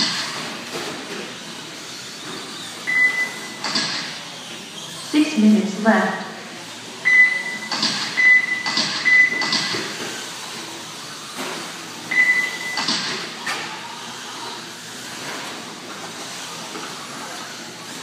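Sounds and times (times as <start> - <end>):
rc cars hissing motors: 0.0 - 5.2, 6.4 - 7.7, 9.7 - 18.0.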